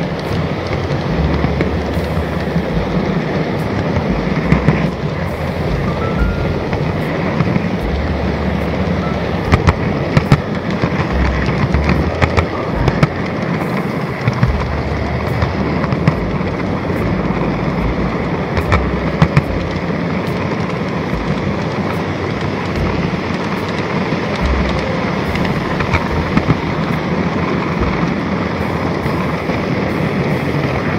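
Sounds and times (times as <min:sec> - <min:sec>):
sharp clicks and crackles: 0:00.0 - 0:30.9.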